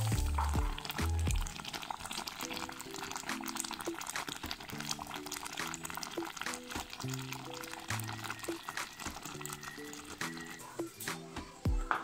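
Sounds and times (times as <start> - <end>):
pot of lentils boiling: 0.0 - 11.9
mellow background music: 0.0 - 12.0.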